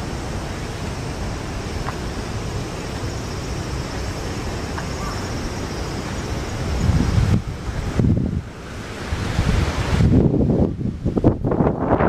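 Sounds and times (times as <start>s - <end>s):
strong wind through trees: 0.0s - 12.0s
wind rumble on microphone: 0.0s - 12.0s.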